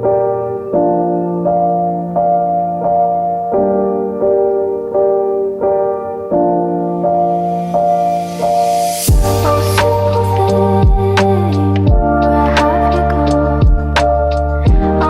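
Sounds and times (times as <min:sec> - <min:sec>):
keyboard playing sustained chords: 0:00.0 - 0:15.0.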